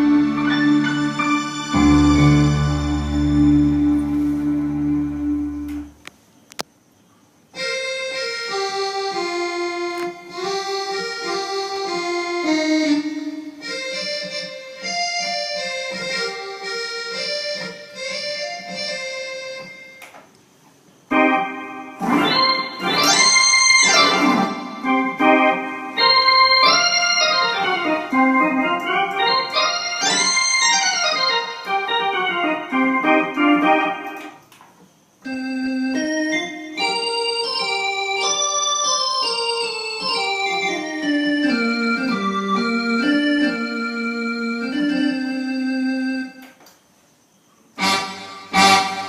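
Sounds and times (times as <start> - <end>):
electronic keyboard organ melody: 0.0 - 6.6, 7.4 - 20.2, 21.0 - 46.8, 47.6 - 49.0.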